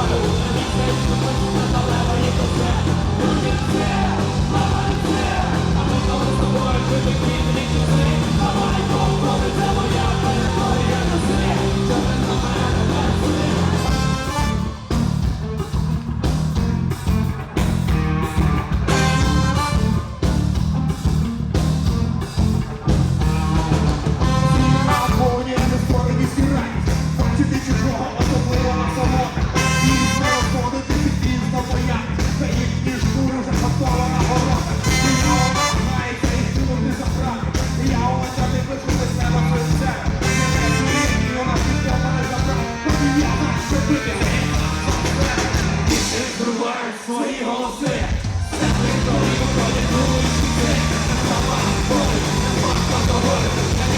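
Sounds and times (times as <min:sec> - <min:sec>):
bass guitar: 0:00.0 - 0:46.5, 0:47.9 - 0:53.9
electric guitars: 0:00.0 - 0:46.9, 0:47.8 - 0:53.9
drums: 0:00.0 - 0:53.9.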